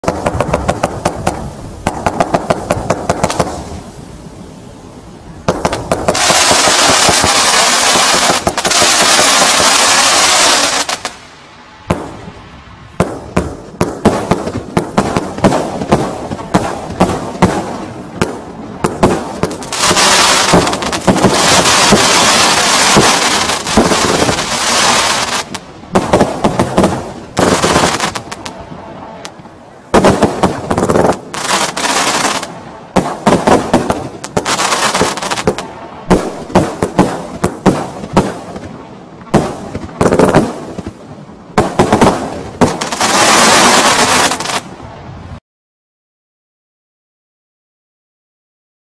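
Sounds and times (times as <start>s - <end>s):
firework shots and bursts: 0.0s - 3.9s, 5.4s - 11.2s, 11.9s - 44.7s
firework crackling: 0.0s - 44.9s.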